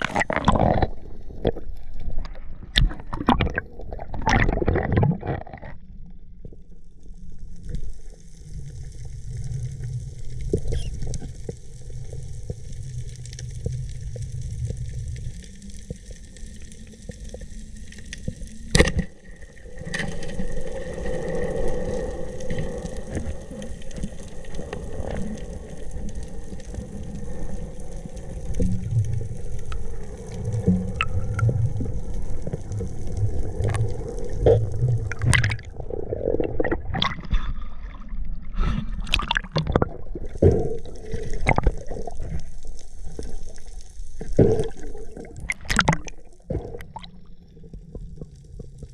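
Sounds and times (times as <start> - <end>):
water sloshing and gurgling: 0.0 - 48.9.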